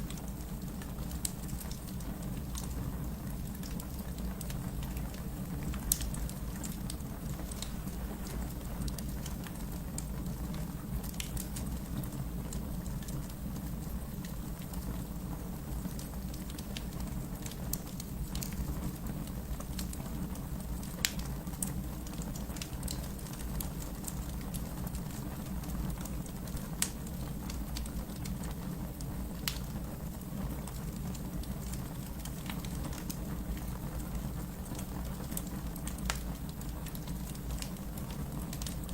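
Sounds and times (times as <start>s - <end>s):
fire crackling and snapping: 0.0s - 38.9s
wood fire flames rumbling: 0.0s - 38.9s.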